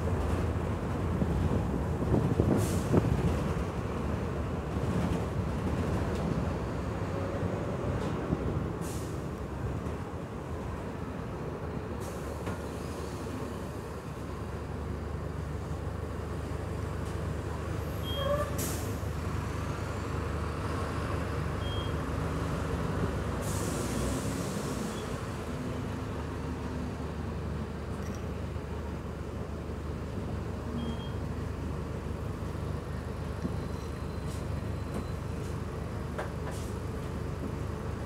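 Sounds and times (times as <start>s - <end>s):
bus diesel engine drone: 0.0s - 38.0s
road rumble: 0.0s - 38.0s.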